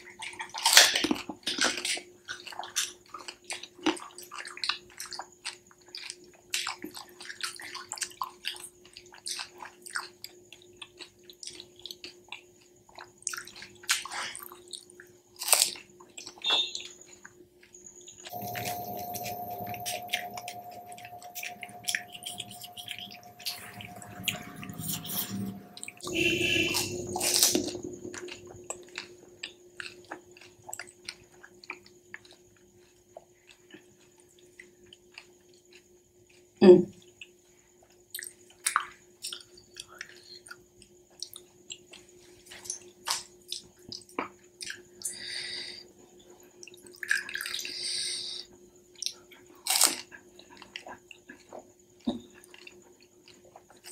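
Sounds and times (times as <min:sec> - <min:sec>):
wet chewing: 0:00.0 - 0:17.8, 0:19.8 - 0:45.0, 0:49.0 - 0:53.9.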